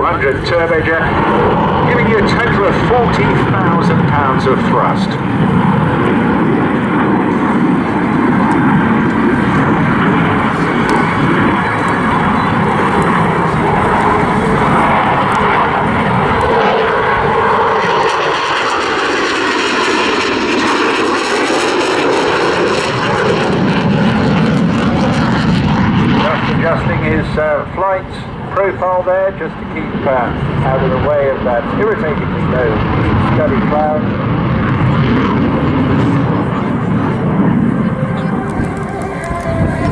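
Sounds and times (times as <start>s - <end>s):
jet engine roar: 0.0s - 39.9s.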